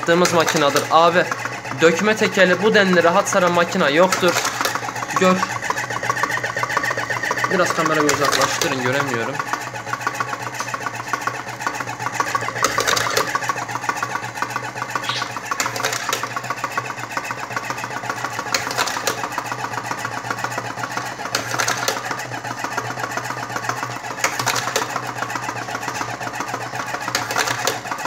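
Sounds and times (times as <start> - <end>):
cigarette filling machine running: 0.0 - 28.0.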